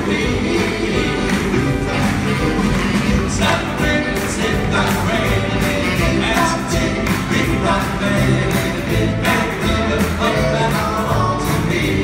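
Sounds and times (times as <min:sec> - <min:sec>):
band playing: 0:00.0 - 0:12.0
male vocal group singing in harmony: 0:00.0 - 0:12.0.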